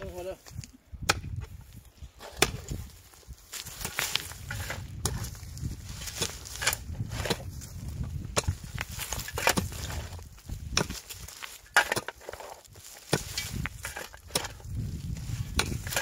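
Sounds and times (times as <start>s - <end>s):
shovel scraping earth and stones: 0.0s - 16.0s
pickaxe striking soil: 1.0s - 1.6s, 2.2s - 2.9s, 3.5s - 16.0s.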